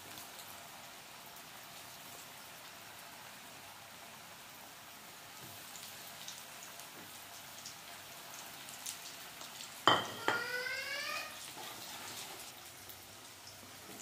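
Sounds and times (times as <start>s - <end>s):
potatoes sizzling in hot oil: 0.0s - 14.0s.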